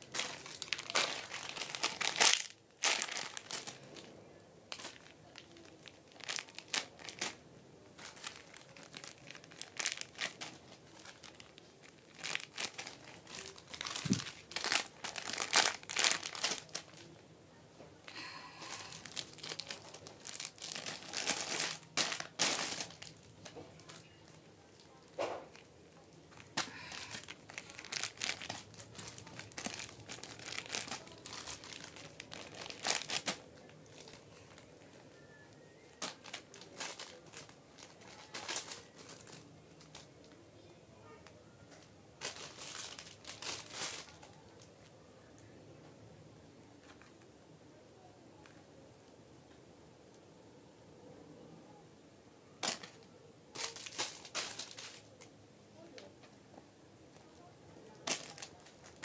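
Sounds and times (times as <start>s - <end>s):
plastic crinkling and rustling: 0.0s - 4.1s, 4.7s - 17.2s, 18.0s - 40.4s, 41.1s - 45.5s, 52.6s - 56.3s, 57.2s - 59.0s.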